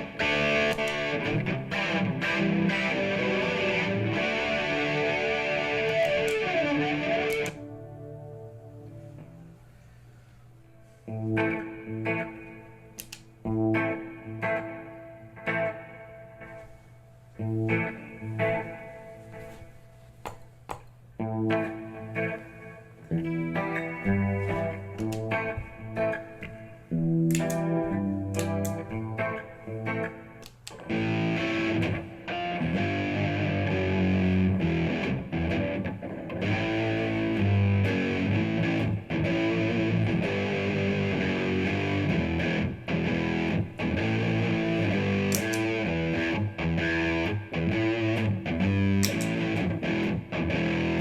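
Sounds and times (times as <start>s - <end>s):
electric guitar playing: 0.0s - 20.0s, 21.2s - 51.0s.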